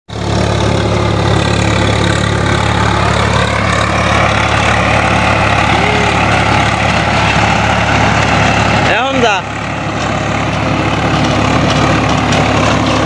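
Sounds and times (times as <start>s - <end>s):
rotary tiller churning soil: 0.1s - 13.0s
tractor diesel engine running: 0.1s - 13.0s.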